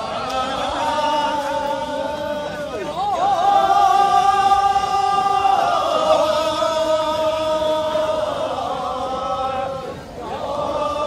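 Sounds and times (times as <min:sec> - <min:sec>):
men singing work-song chant: 0:00.0 - 0:11.0.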